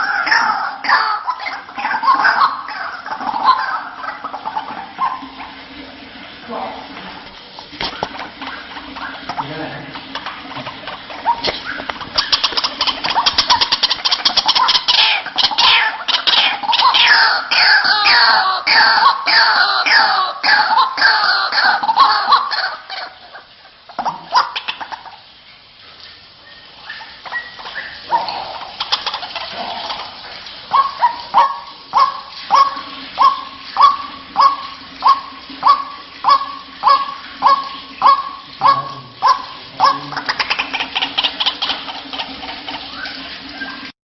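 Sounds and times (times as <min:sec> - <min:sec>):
waterhen calls: 0:00.0 - 0:44.0.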